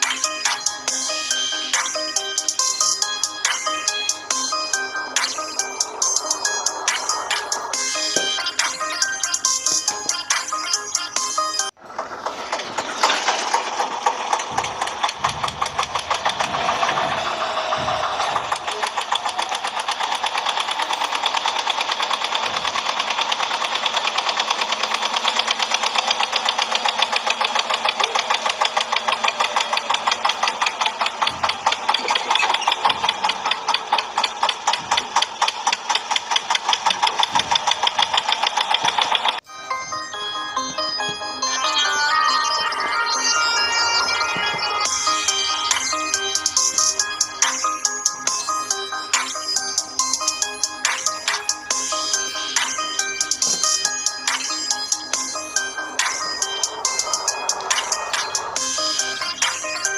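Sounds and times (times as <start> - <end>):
toy tractor engine sound: 0.0 - 59.9.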